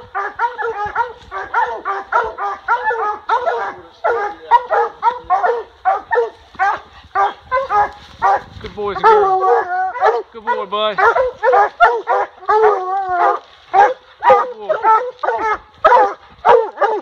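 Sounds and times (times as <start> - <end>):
dogs barking rapidly: 0.0 - 17.0.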